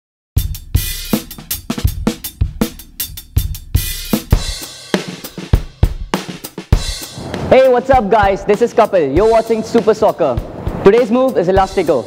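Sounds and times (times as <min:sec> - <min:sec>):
music with driving drum beat: 0:00.4 - 0:12.0.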